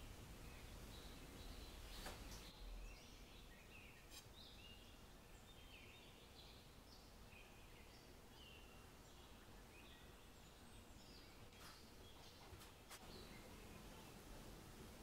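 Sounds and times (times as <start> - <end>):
faint bird chirps: 0.0 - 14.3.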